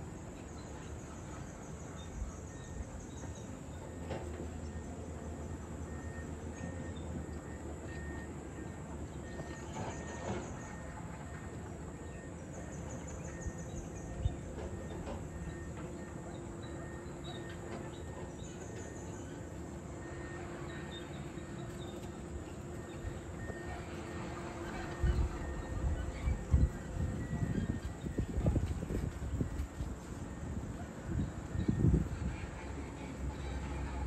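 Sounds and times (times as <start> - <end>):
insects chirping: 0.0 - 32.1
construction machinery rumble: 0.0 - 34.0.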